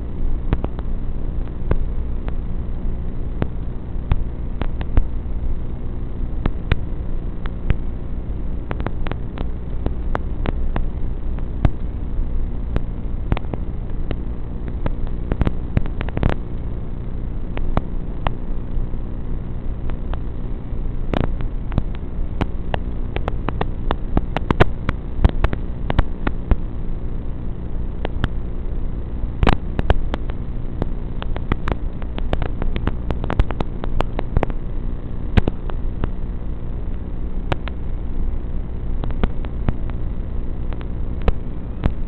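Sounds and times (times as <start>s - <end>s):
low electrical buzz: 0.0s - 42.0s
sharp crackles and clicks: 0.0s - 42.0s.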